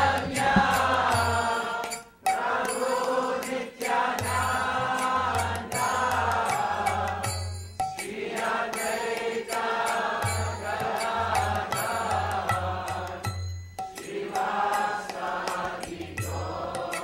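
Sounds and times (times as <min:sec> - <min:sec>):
voices chanting: 0:00.0 - 0:07.2, 0:08.0 - 0:13.2, 0:14.0 - 0:17.0
rhythmic musical accompaniment: 0:00.0 - 0:17.0.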